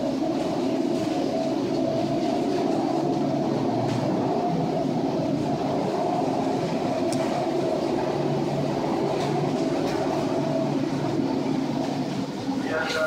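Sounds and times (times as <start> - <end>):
sea breaking over the bow: 0.0 - 12.7
ship engine hum: 0.0 - 13.0
wind: 0.0 - 13.0.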